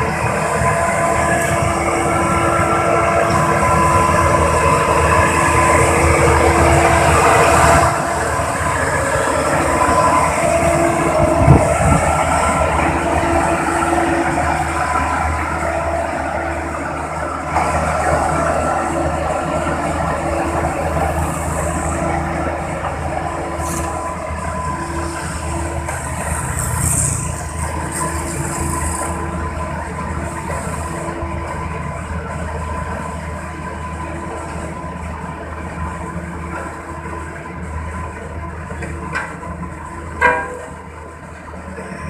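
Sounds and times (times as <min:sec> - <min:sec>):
large machine engine droning: 0:00.0 - 0:42.0.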